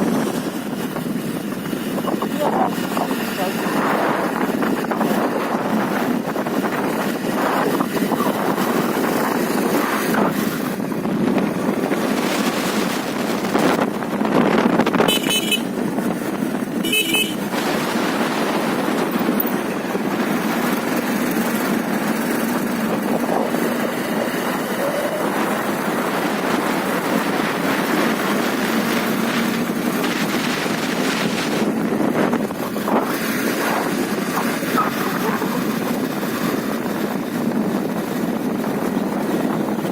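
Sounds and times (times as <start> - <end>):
motorcycle engine: 0.0 - 39.9
road noise: 0.0 - 39.9
wind buffeting microphone: 0.0 - 39.9.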